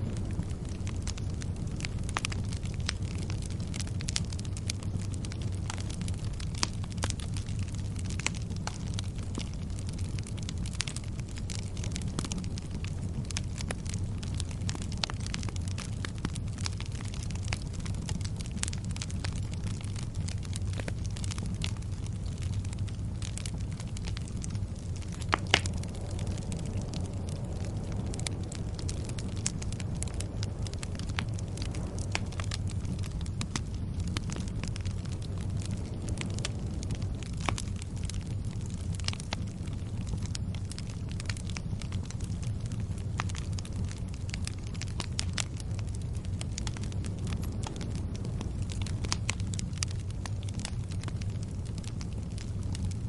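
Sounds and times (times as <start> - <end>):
fire crackling and popping: 0.0 - 53.0
low fire rumble: 0.0 - 53.0.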